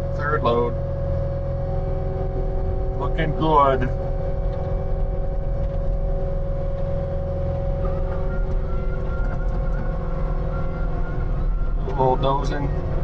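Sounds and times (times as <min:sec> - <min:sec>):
skid steer engine running: 0:00.0 - 0:13.0.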